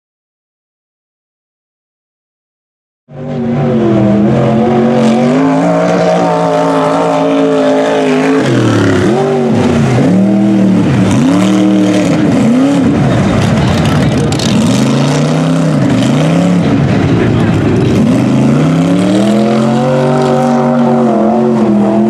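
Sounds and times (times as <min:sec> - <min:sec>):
truck engine revving: 0:03.1 - 0:22.0.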